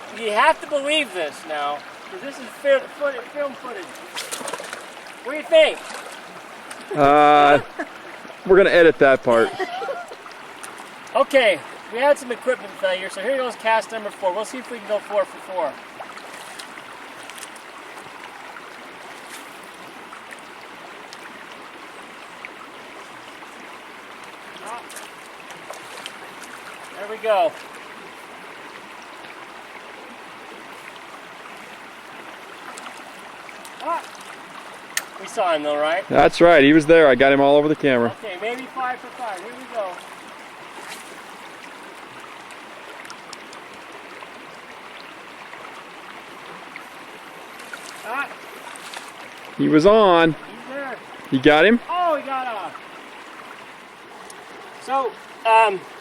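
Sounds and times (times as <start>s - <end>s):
river flowing: 0.0s - 56.0s.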